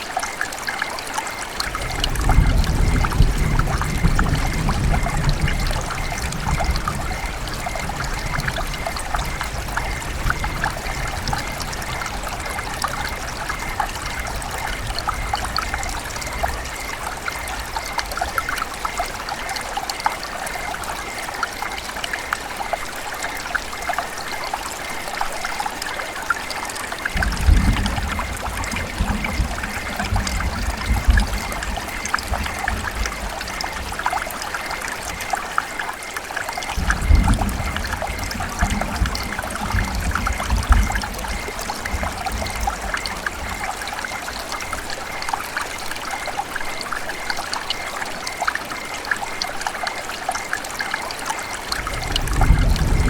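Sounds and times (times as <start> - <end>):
river water trickling over rocks: 0.0 - 53.0.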